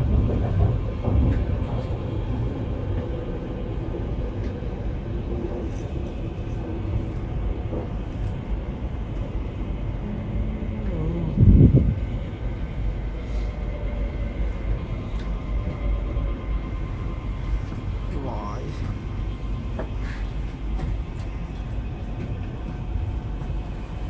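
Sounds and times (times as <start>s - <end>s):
train running rumble: 0.0s - 24.0s.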